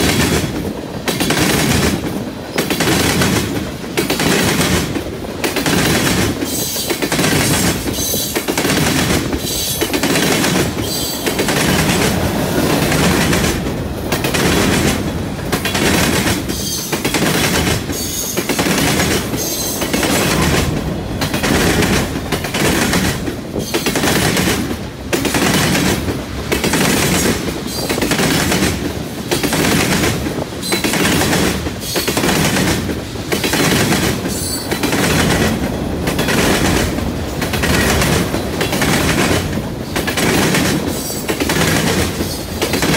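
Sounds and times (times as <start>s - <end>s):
train wheels clattering over rails: 0.0s - 42.9s.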